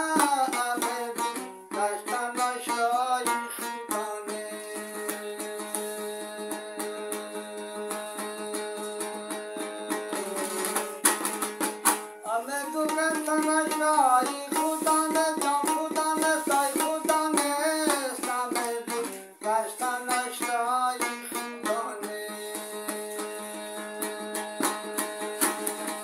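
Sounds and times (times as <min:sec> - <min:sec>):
man singing: 0:00.0 - 0:11.4, 0:12.2 - 0:26.0
lute strummed: 0:00.0 - 0:26.0.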